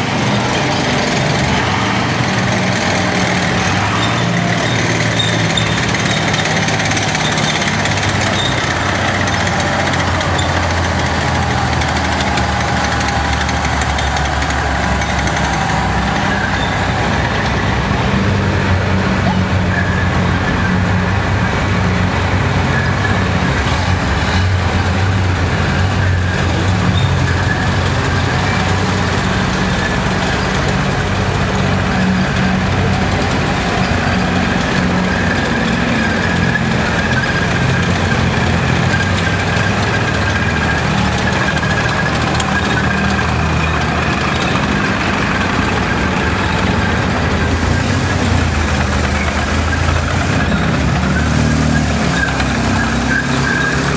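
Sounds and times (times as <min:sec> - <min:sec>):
tank engines running: 0:00.0 - 0:53.9.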